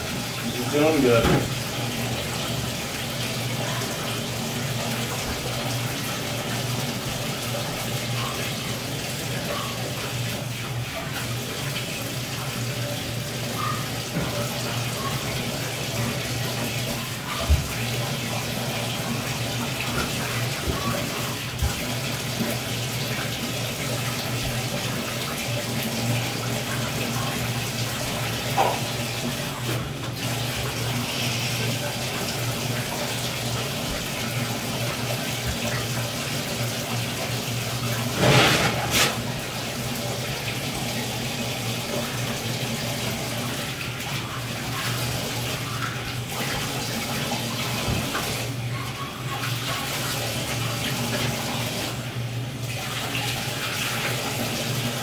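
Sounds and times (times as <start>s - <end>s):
bathtub tap running: 0.0s - 51.9s.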